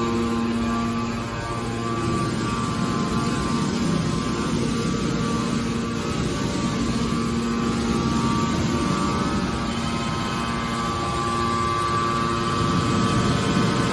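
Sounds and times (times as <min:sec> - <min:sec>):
baler motor and pump hum: 0:00.0 - 0:13.9.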